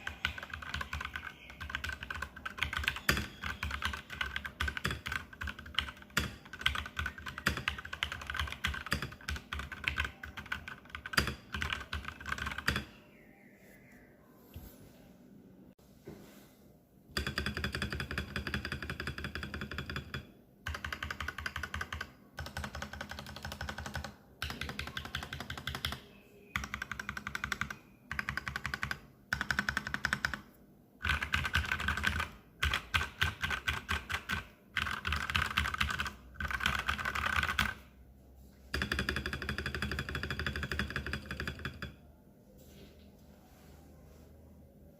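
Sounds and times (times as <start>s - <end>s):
mechanical keyboard typing: 0.0s - 12.9s, 17.2s - 26.0s, 26.6s - 37.9s, 38.7s - 42.0s.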